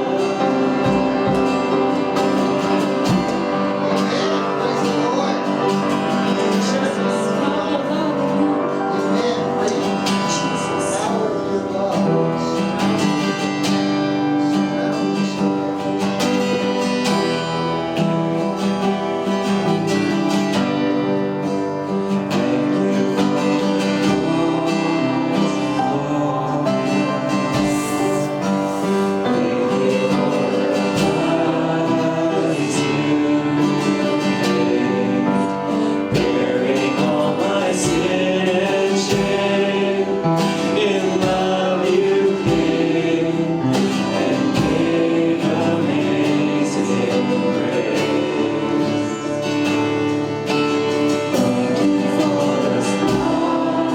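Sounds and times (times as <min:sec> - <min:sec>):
person singing: 0:00.0 - 0:17.8, 0:19.6 - 0:53.9
strummed acoustic guitar: 0:00.0 - 0:53.9.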